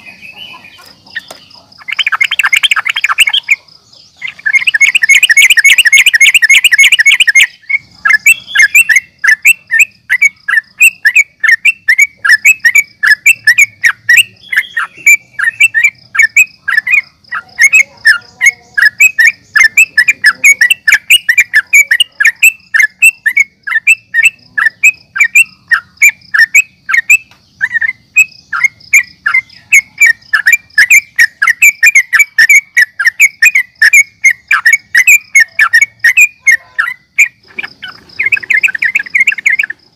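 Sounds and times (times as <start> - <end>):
bulbul chattering and chirping: 0.0 - 39.9.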